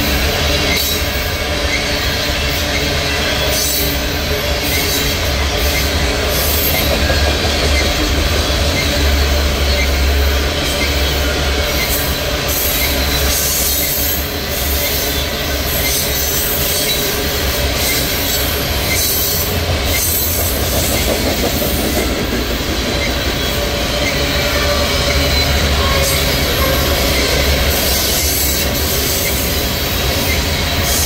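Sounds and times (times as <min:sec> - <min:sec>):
train wheels clattering on rails: 0:00.0 - 0:31.0
high-pitched wheel squeal: 0:00.6 - 0:22.1, 0:22.7 - 0:31.0.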